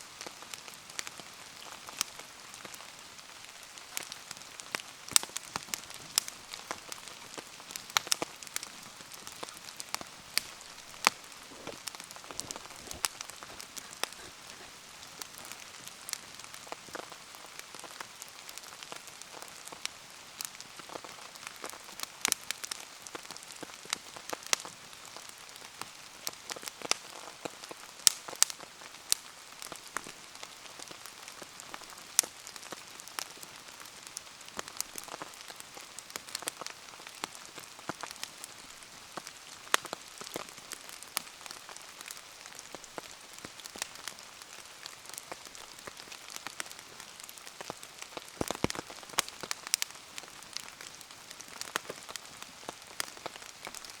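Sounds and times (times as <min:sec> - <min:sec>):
rain hiss: 0:00.0 - 0:54.0
bonfire pops and ticks: 0:00.2 - 0:02.9, 0:03.5 - 0:54.0.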